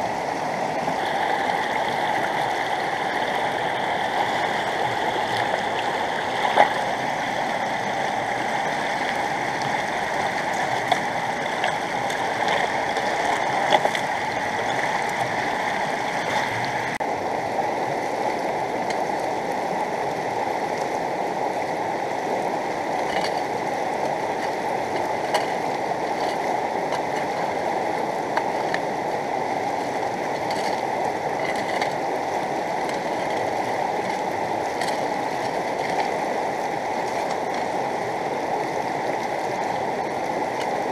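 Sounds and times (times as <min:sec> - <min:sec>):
water running through sluice: 0:00.0 - 0:17.1, 0:18.0 - 0:40.9
rushing rocky river: 0:00.0 - 0:40.9.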